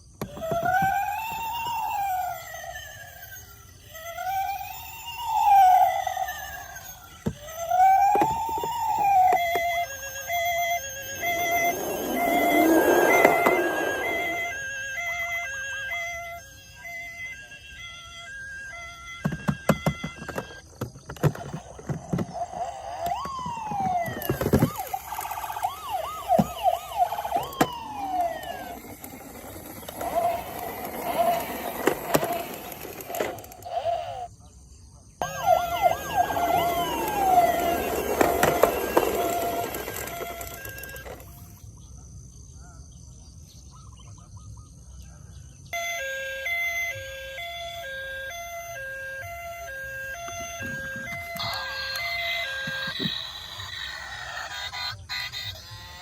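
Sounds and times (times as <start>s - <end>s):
toy sirens wailing: 0.0s - 34.3s, 35.2s - 41.7s, 45.8s - 56.0s.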